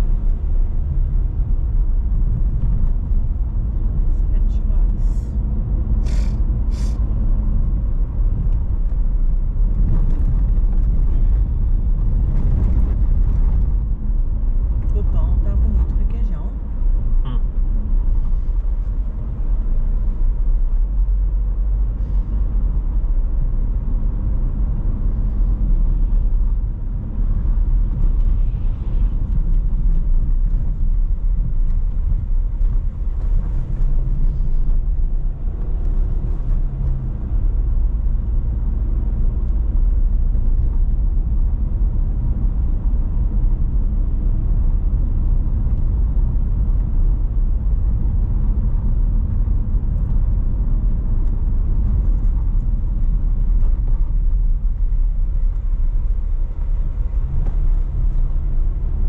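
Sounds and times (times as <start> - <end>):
car driving on highway: 0.0 - 59.0.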